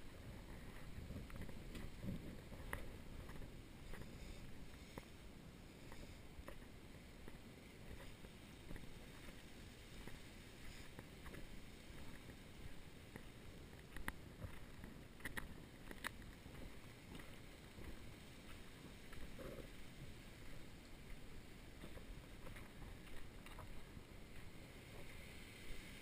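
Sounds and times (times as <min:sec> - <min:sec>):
footsteps on gravelly trail: 0:00.0 - 0:25.8.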